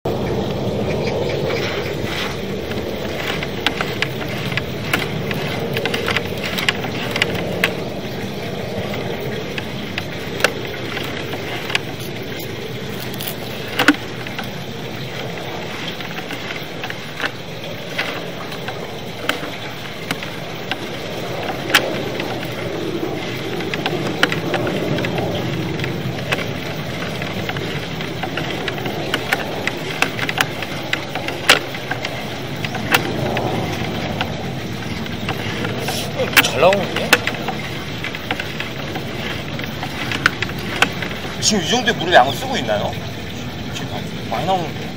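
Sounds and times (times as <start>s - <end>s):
steady rushing noise: 0.0s - 44.9s
cable clicking and knocking in pipe: 1.6s - 42.8s.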